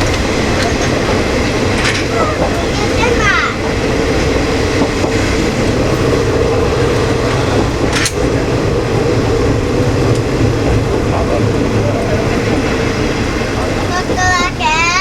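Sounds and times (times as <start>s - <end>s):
diesel engine hum: 0.0s - 15.0s
train wheels on rails: 0.0s - 15.0s.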